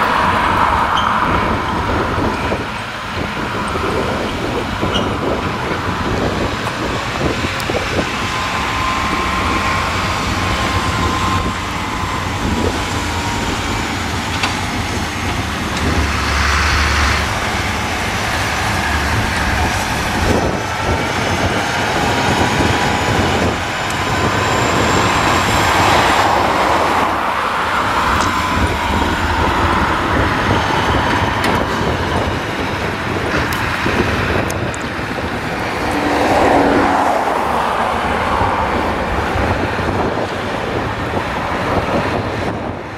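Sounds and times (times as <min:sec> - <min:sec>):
diesel farm machinery engines: 0:00.0 - 0:42.9.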